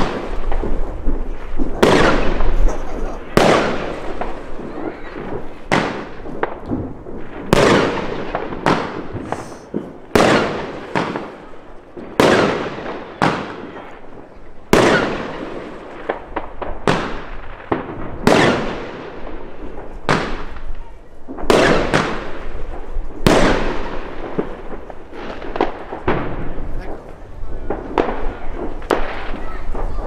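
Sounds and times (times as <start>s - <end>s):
fireworks bangs with echo: 0.0s - 30.0s
smaller firework bangs: 0.0s - 30.0s.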